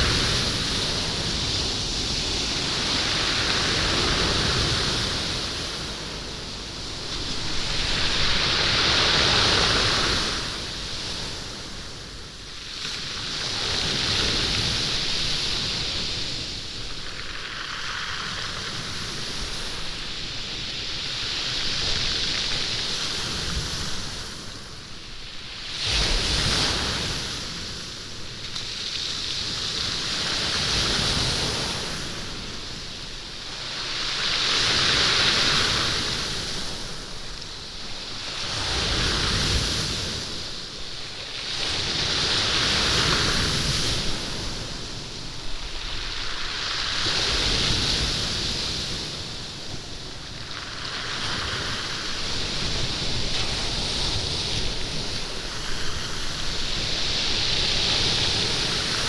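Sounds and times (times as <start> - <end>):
waves breaking on stony beach: 0.0 - 59.0.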